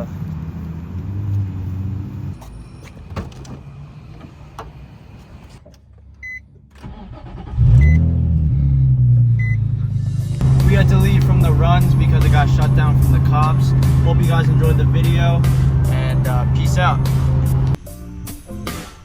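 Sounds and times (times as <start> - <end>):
car engine starting and idling: 0.0 - 17.8.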